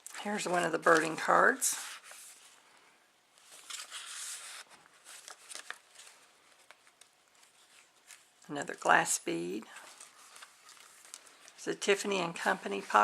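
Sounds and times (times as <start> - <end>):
paper pages rustling: 0.0 - 2.6, 3.4 - 8.9, 9.6 - 13.0.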